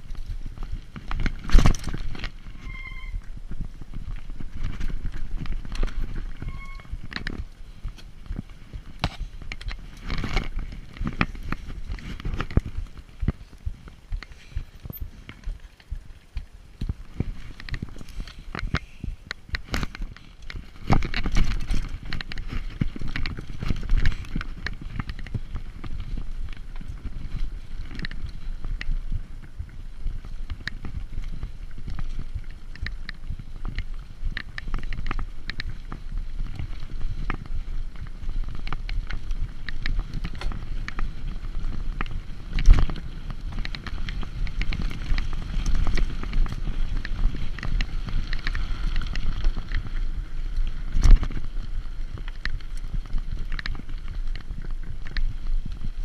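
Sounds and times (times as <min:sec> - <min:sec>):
bike rattling: 0:00.0 - 0:56.0
wind buffeting microphone: 0:00.0 - 0:56.0.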